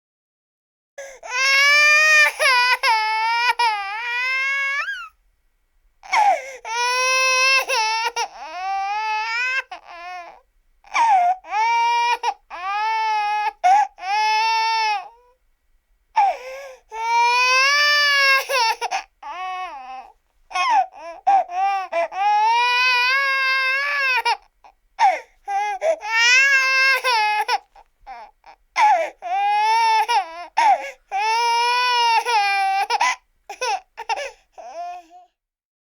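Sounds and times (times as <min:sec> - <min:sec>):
baby crying: 0:01.0 - 0:05.2, 0:06.0 - 0:15.4, 0:16.2 - 0:35.3.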